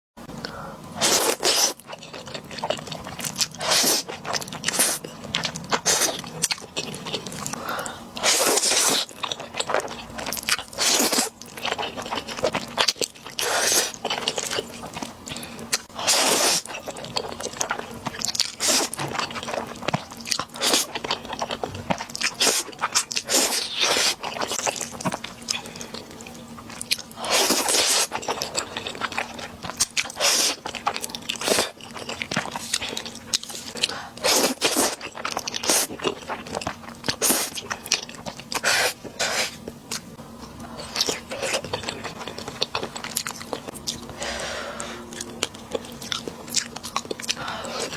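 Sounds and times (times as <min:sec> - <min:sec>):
person chewing crunchy food: 0:00.9 - 0:47.9.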